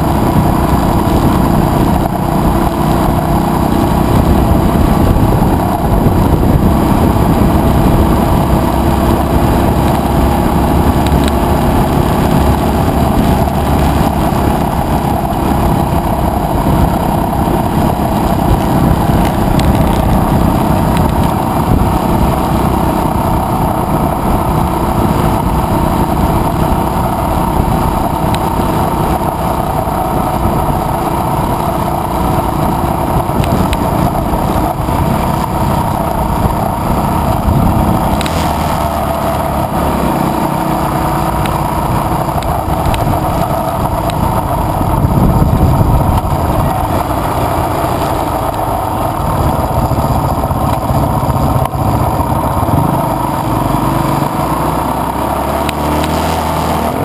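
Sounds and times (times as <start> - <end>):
motorcycle running on gravel: 0.0 - 57.0
road noise: 0.0 - 57.0
wind noise: 0.0 - 57.0.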